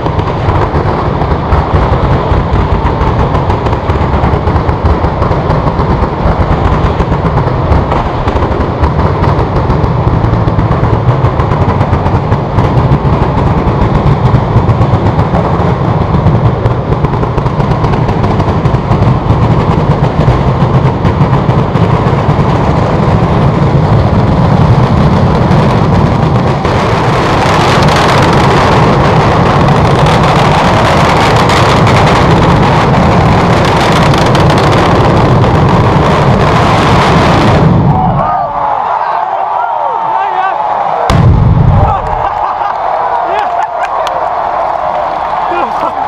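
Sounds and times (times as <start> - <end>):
firecrackers going off: 0.0 - 46.0.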